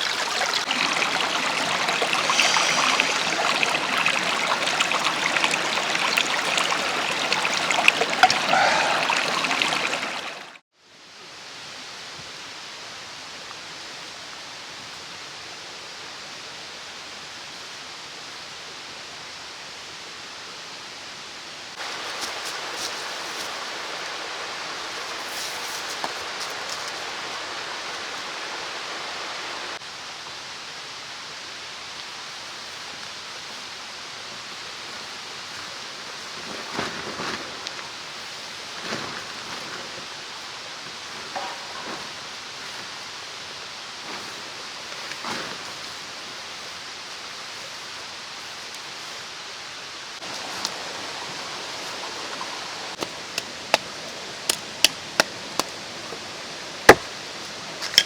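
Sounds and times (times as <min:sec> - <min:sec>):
mountain stream flowing: 0:00.0 - 0:10.6, 0:21.7 - 0:58.0.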